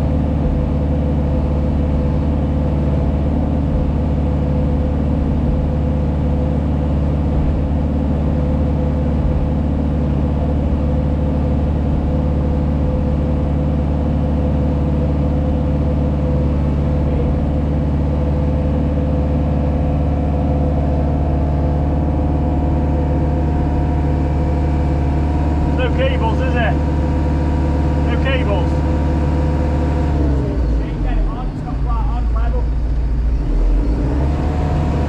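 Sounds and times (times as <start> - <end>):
diesel engine low hum: 0.0 - 35.0.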